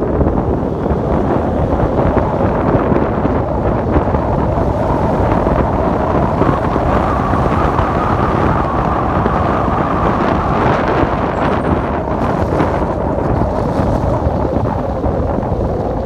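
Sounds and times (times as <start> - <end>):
car engine and road noise: 0.0 - 16.0
wind buffeting microphone: 0.0 - 16.0.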